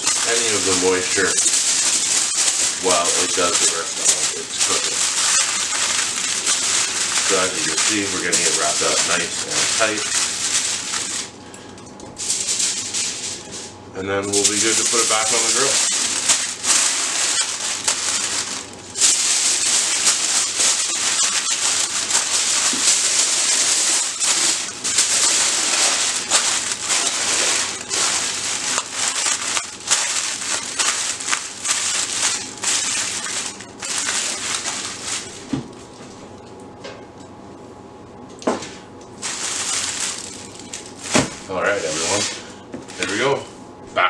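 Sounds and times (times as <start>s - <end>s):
aluminium foil crinkling: 0.0s - 36.0s, 39.2s - 43.2s.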